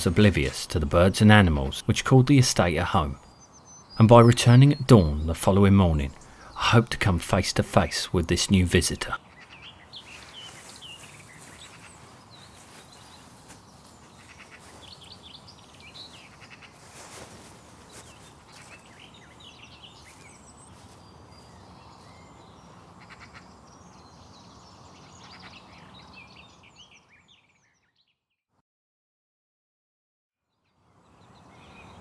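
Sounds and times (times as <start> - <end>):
small birds chirping and singing: 0.0 - 28.3, 30.5 - 32.0.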